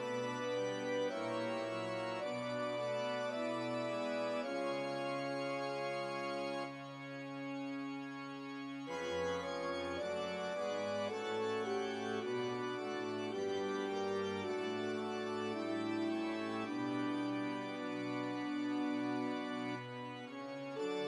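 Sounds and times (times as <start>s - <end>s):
slow sustained keyboard music: 0.0s - 21.0s.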